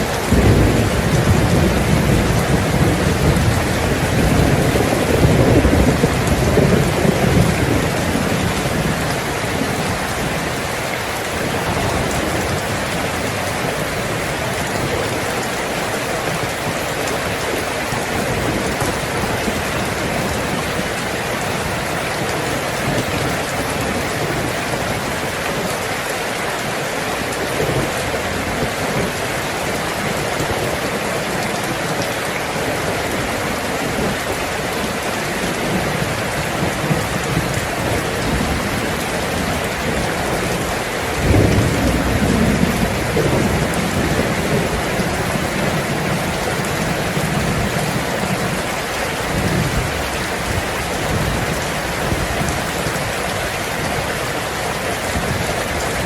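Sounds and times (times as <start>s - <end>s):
heavy rain on a tin roof: 0.0s - 56.0s
low thunder rumble: 0.1s - 25.8s, 33.2s - 54.2s.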